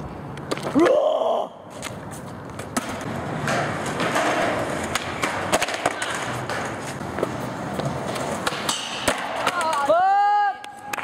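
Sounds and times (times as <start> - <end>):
skateboard wheels rolling on concrete: 0.0 - 11.0
skateboard clacks: 1.8 - 11.0.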